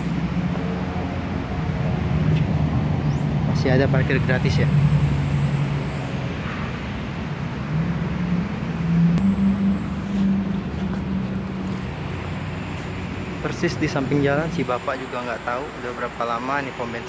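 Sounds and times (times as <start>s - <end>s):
engine hum rising in pitch: 0.0s - 17.0s
road traffic rumble: 0.0s - 17.0s.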